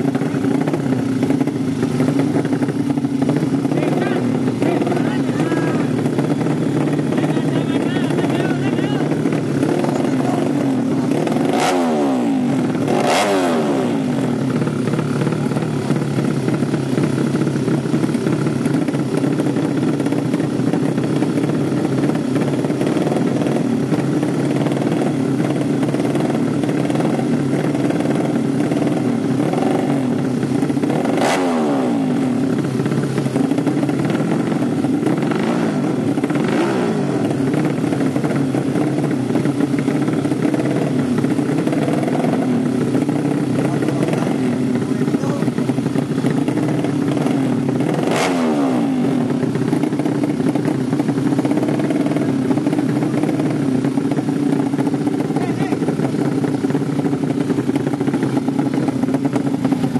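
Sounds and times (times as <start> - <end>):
motorcycle engines running loudly: 0.0 - 59.9
motorcycles revving and passing by: 0.0 - 59.9.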